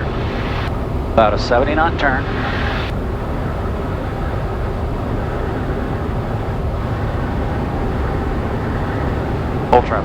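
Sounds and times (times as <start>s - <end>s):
small plane engine in cabin: 0.0s - 10.0s.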